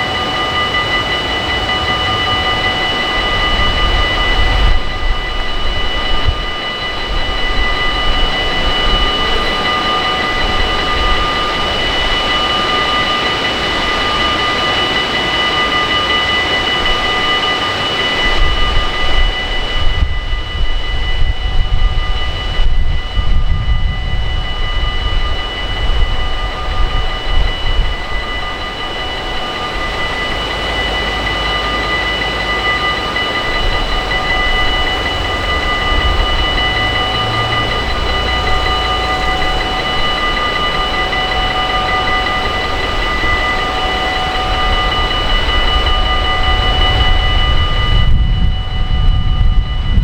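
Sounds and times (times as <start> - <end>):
wind buffeting microphone: 0.0 - 31.6, 33.1 - 50.0
train running with high whine: 0.0 - 50.0.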